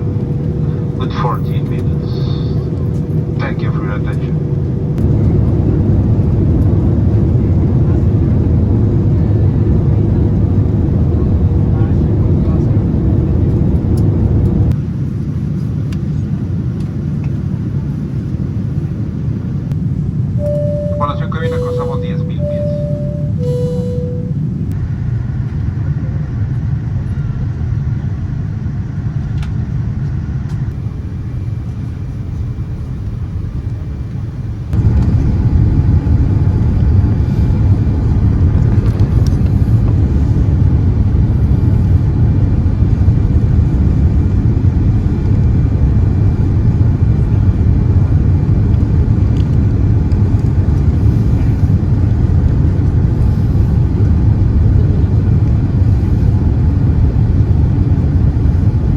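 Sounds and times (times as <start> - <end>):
airliner cabin rumble: 0.0 - 58.9.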